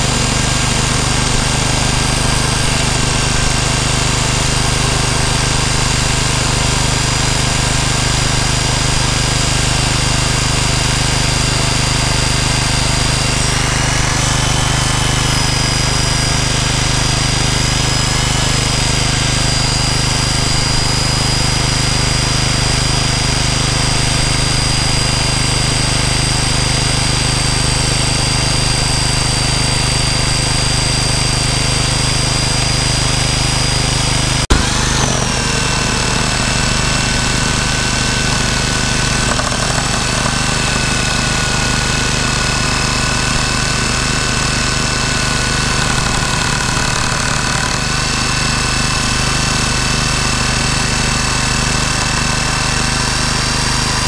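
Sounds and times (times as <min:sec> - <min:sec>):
electric jigsaw cutting wood: 0:00.0 - 0:54.0
petrol generator running: 0:00.0 - 0:54.0.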